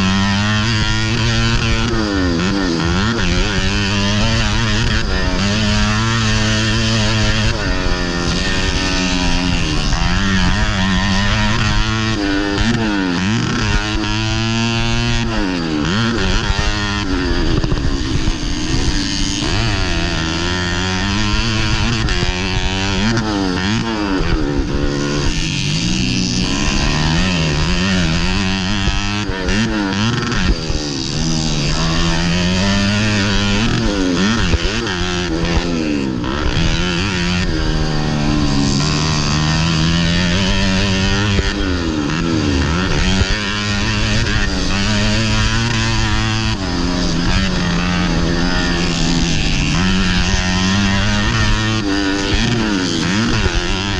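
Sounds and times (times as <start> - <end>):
motorcycle engine at high revs: 0.0 - 53.9.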